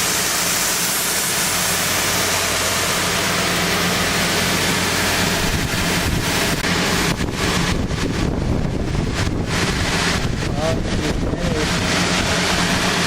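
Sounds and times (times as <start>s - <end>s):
low motor hum: 0.0s - 13.0s
sander abrasive rush: 0.0s - 13.0s.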